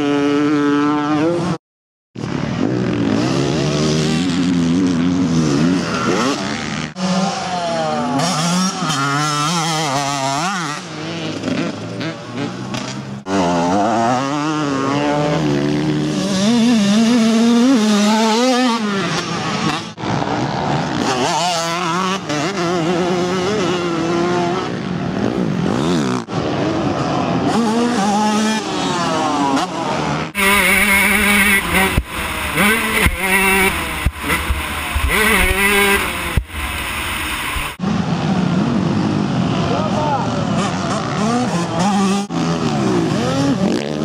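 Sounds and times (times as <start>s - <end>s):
two-stroke motocross bikes revving: 0.0s - 1.6s, 2.2s - 44.0s.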